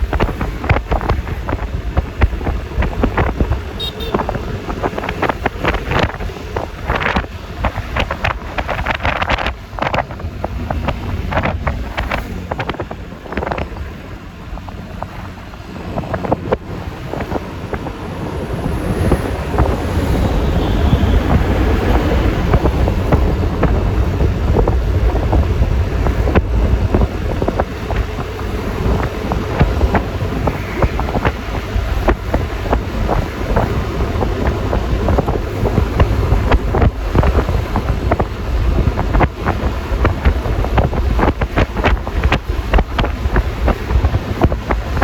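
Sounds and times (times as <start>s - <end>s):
engine and road rumble: 0.0s - 45.0s
wind rushing over microphone: 0.0s - 45.0s.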